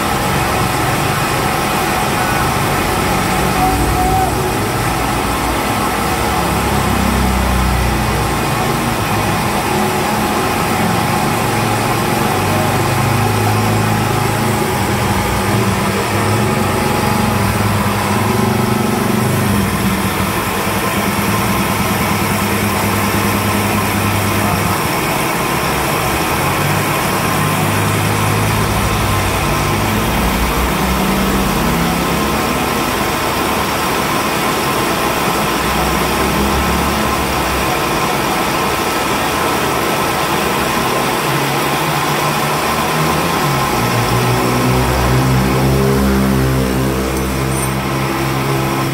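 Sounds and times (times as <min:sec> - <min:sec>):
high whine: 0:00.0 - 0:48.9
milling machine hum: 0:00.0 - 0:48.9.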